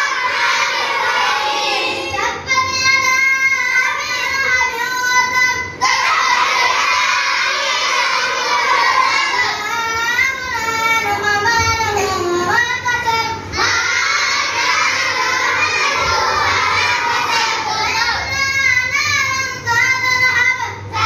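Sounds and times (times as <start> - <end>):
child chanting melodically: 0.0 - 21.0.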